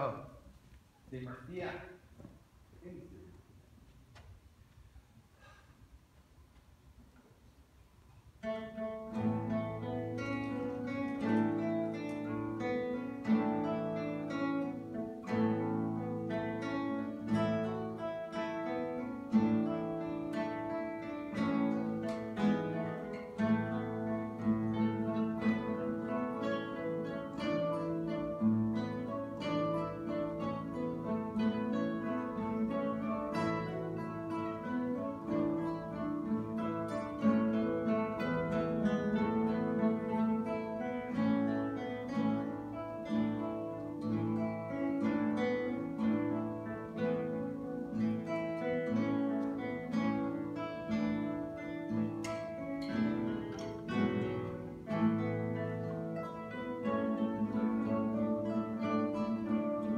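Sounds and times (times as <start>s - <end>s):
acoustic guitars plucking and strumming: 5.2s - 59.9s.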